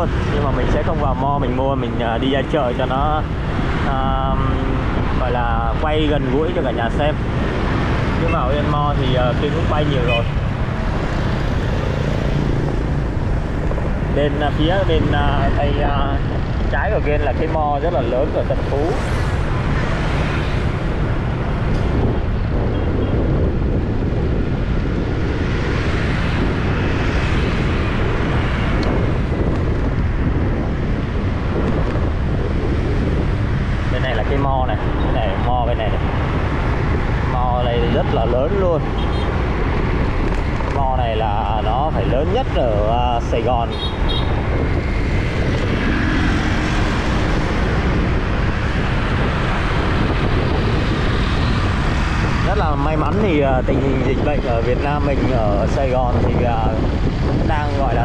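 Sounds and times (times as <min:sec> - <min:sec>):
motorbike engines humming: 0:00.0 - 0:58.0
road noise from moving vehicle: 0:00.0 - 0:58.0
wind rumble on microphone: 0:00.0 - 0:58.0.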